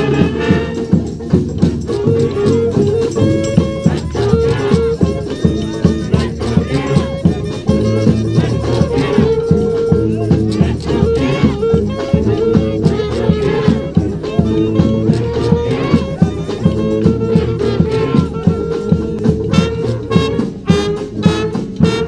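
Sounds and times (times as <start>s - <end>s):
brass band playing: 0.0s - 22.0s
drum beat: 0.0s - 22.0s
shaken percussion: 0.0s - 22.0s.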